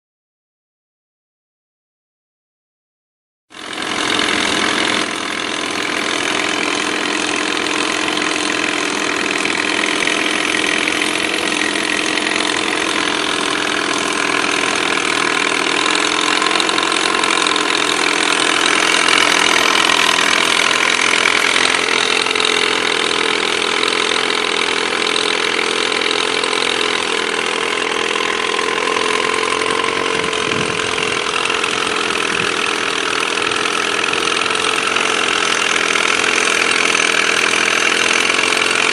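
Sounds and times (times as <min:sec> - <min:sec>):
outboard motor running: 0:03.5 - 0:38.9.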